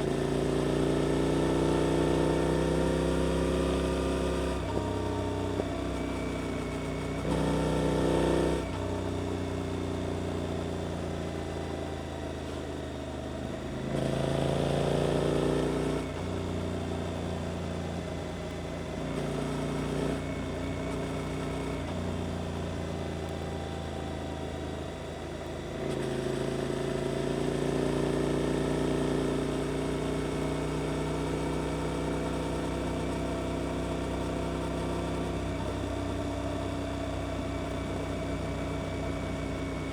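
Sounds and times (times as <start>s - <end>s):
motorcycle engine revving: 0.0s - 12.5s, 13.4s - 39.9s.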